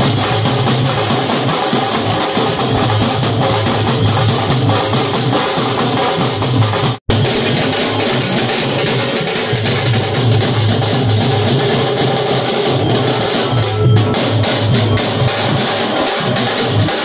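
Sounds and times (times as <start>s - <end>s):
drums beaten in fast rhythm: 0.0s - 17.0s.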